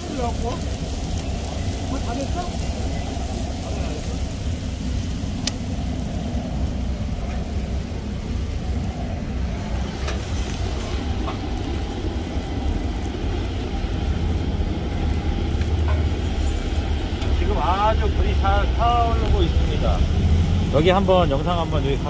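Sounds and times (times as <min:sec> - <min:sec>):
fire crackles: 0:00.0 - 0:22.0
wood fire burning in stove: 0:00.0 - 0:22.0.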